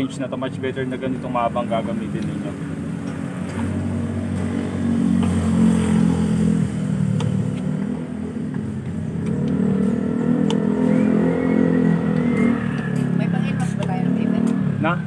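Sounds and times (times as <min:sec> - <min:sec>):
vehicle engine running: 0:00.9 - 0:15.0.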